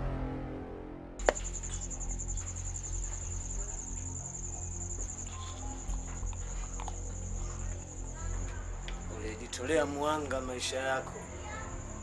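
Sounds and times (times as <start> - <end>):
crickets chirping: 1.2 - 12.0.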